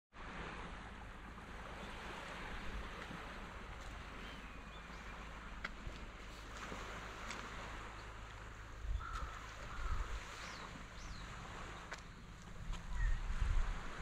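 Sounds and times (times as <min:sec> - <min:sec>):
small waves washing on sand: 0:00.2 - 0:14.0.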